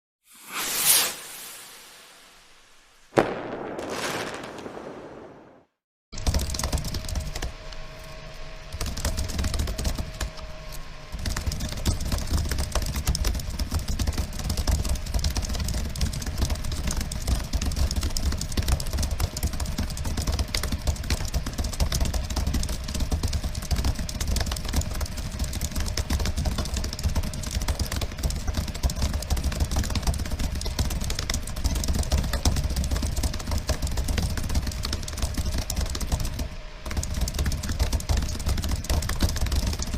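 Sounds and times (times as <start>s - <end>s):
rapid keyboard typing: 6.2s - 10.5s, 11.1s - 39.9s.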